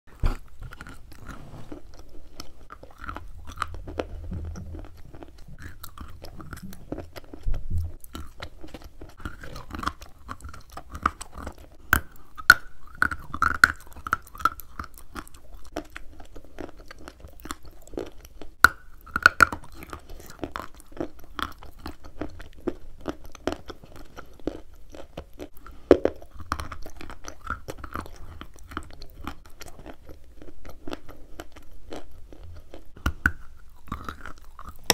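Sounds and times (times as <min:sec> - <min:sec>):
crunching and chewing chalk: 0:00.1 - 0:34.9.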